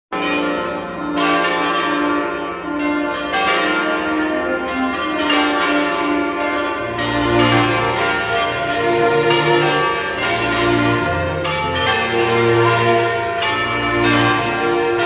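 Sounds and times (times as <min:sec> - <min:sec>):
church bells ringing: 0:00.1 - 0:15.0.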